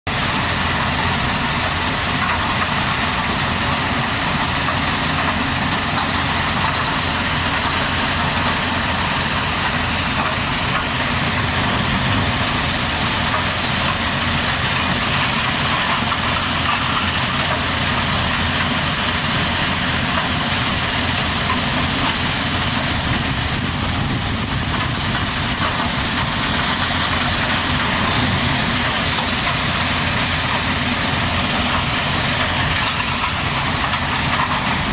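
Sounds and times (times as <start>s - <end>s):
heavy machine engine running: 0.0s - 34.9s.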